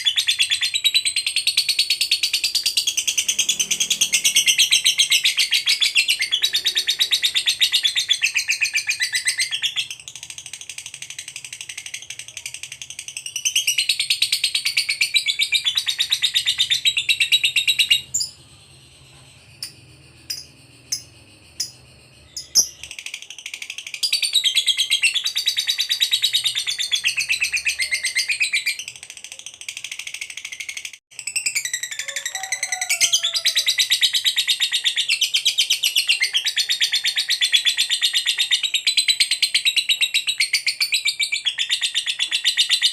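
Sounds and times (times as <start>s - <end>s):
lovebird chattering trill: 0.0s - 42.9s.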